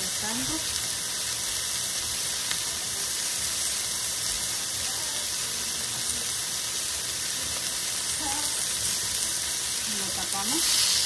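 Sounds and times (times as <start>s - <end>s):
steaks sizzling in grill pan: 0.0s - 11.0s.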